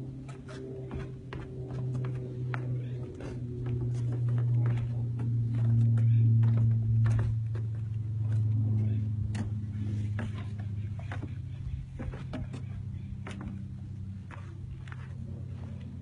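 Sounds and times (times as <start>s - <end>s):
engine idling: 0.0s - 16.0s
footsteps on stone steps: 0.0s - 16.0s.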